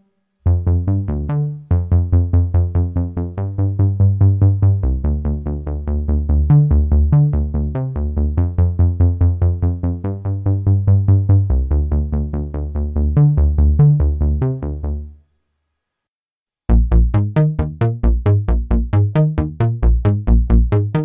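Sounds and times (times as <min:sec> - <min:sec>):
synthesizer bass notes: 0:00.4 - 0:15.1, 0:16.7 - 0:21.0.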